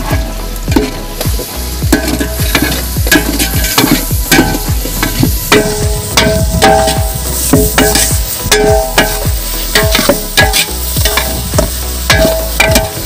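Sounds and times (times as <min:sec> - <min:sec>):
background music with drumbeat: 0:00.0 - 0:13.0
metal ladle stirring in pot: 0:00.0 - 0:13.0
onions sizzling in hot oil: 0:00.0 - 0:13.0.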